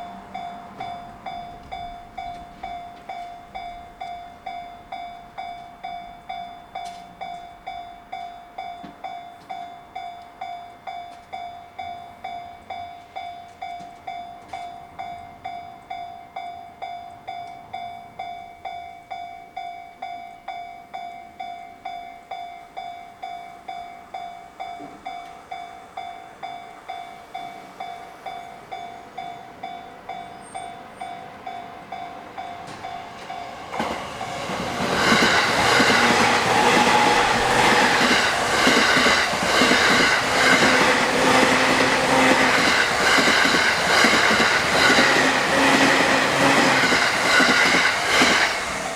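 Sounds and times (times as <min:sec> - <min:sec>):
train approaching: 0:00.0 - 0:48.9.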